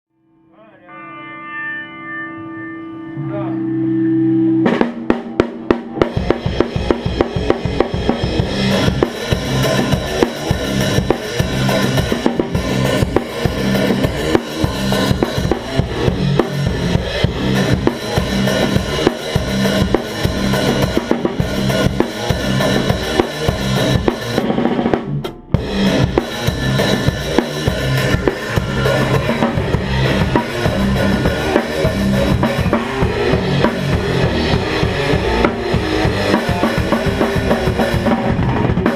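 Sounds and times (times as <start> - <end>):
low heavy guitar riff: 0.3 - 38.9
metal band playing: 0.6 - 38.9
drum kit played hard: 4.4 - 38.9.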